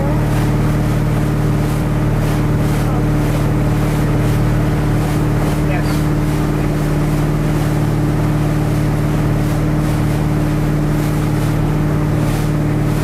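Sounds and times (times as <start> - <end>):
motorboat engine droning: 0.0 - 13.0
wind and water rushing: 0.0 - 13.0.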